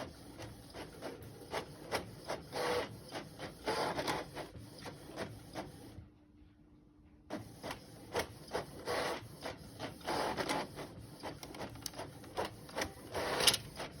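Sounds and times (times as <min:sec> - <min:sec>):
printer clicking and whirring: 0:00.0 - 0:06.0, 0:07.3 - 0:14.0.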